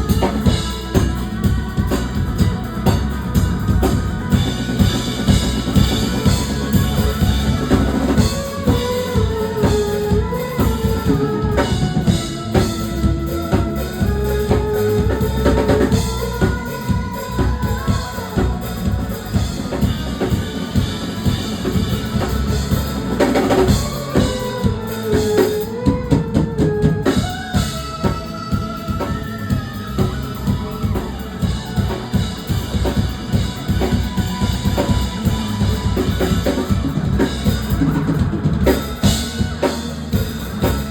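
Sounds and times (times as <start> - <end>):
bending lead melody: 0.0 - 40.9
drum kit beat: 0.0 - 40.9
rock band playing: 0.0 - 40.9.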